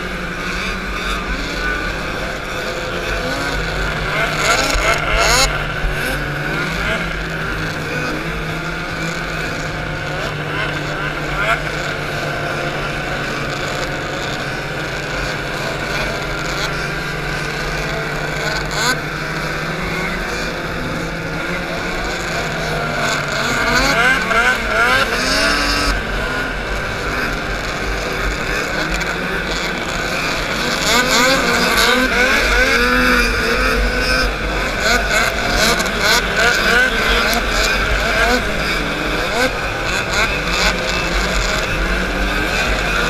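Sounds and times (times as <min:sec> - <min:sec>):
passing snowmobile engines: 0:00.0 - 0:43.0
snowmobile engine drone: 0:00.0 - 0:43.0.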